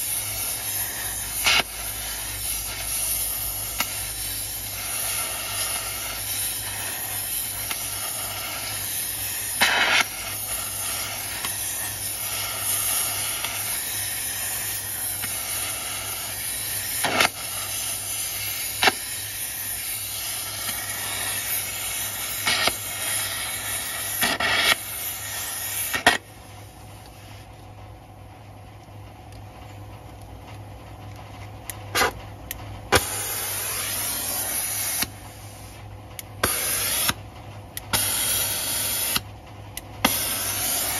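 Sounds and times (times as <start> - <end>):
gas torch flame hissing: 0.0 - 27.5, 32.9 - 40.9.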